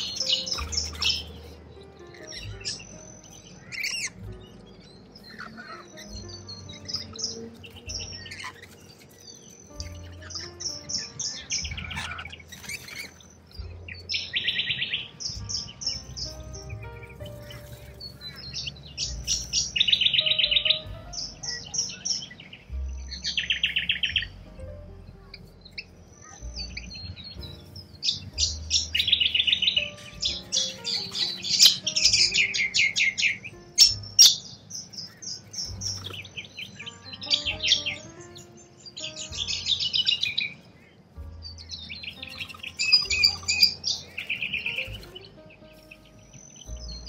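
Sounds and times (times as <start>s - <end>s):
birds chirping in rattling trains: 0.0s - 47.0s.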